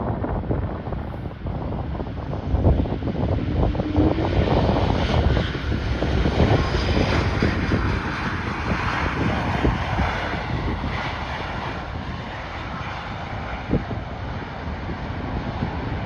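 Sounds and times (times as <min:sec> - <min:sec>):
airliner engines passing: 0:00.0 - 0:16.0
wind buffeting microphone: 0:00.0 - 0:16.0.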